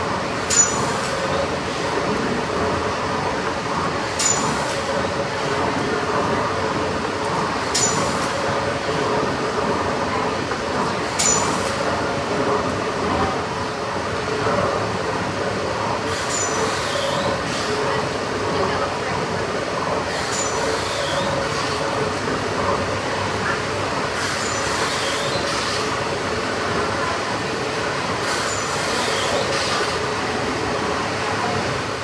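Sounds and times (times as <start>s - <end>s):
steam engine rumbling: 0.0s - 32.0s.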